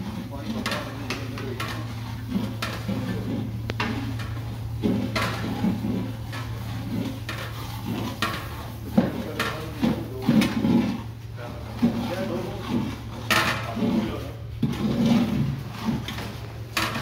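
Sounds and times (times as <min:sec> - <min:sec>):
metal utensils clanking on pots: 0:00.0 - 0:17.0.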